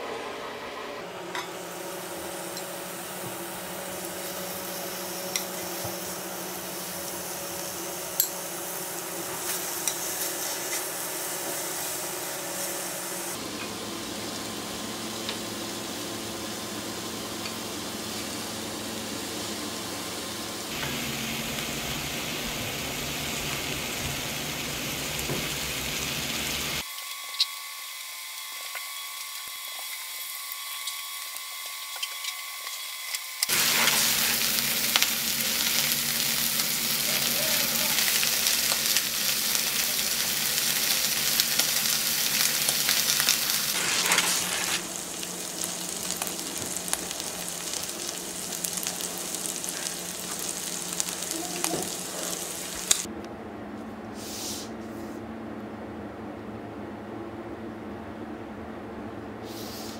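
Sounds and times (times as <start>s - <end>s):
meat sizzling in a pan: 1.6s - 53.1s.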